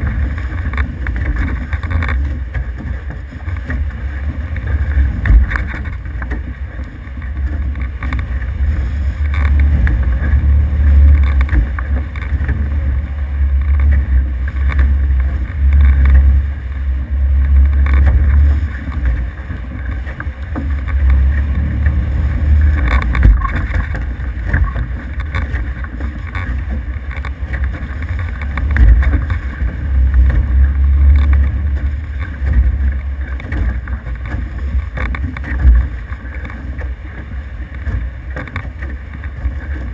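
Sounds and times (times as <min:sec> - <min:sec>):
water rushing along hulls: 0:00.0 - 0:39.9
wind buffeting microphone: 0:00.0 - 0:39.9.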